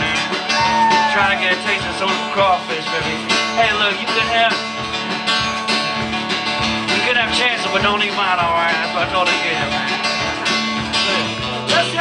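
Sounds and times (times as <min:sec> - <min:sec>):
acoustic guitar strumming: 0:00.0 - 0:12.0
drum kit steady beat: 0:00.0 - 0:12.0.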